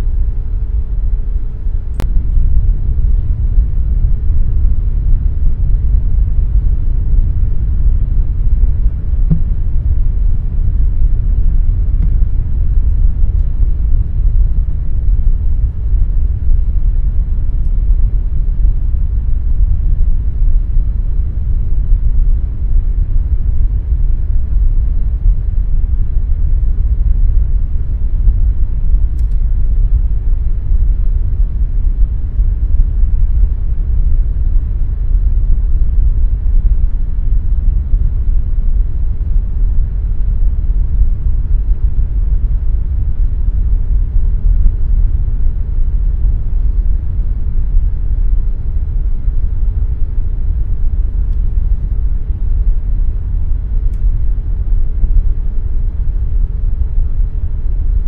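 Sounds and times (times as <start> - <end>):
air conditioner rumbling: 0.0 - 58.0
faint steady hum: 0.0 - 58.0.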